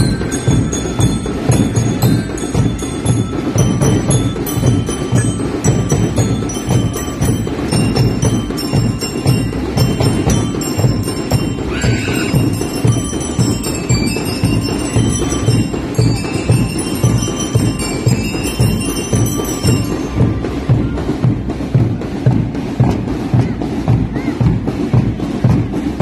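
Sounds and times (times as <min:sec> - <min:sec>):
bell-lyre melody: 0:00.0 - 0:22.5
bass drums beating: 0:00.0 - 0:26.0.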